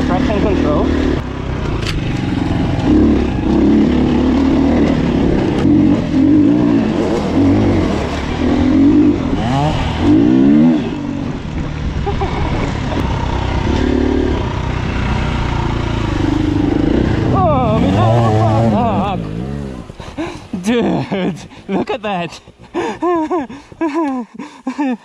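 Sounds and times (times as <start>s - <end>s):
dirt bike engine revving: 0.0s - 21.8s.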